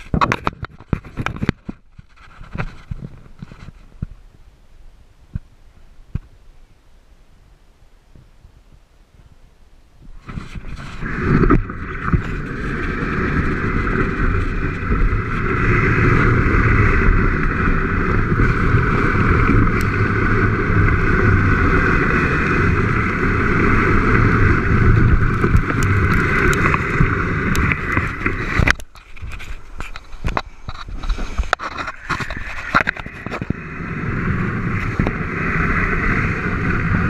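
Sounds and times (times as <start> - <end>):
board scraping down gravel: 0.0 - 4.0, 10.2 - 37.0
wind buffeting microphone: 7.3 - 37.0.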